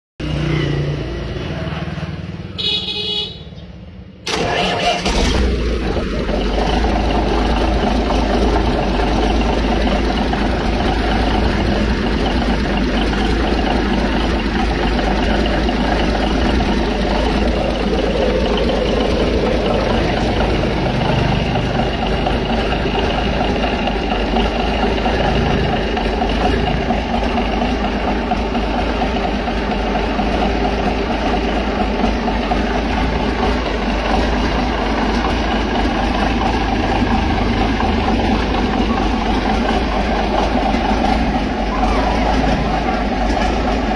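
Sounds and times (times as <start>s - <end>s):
large diesel engine idling: 1.0s - 43.9s.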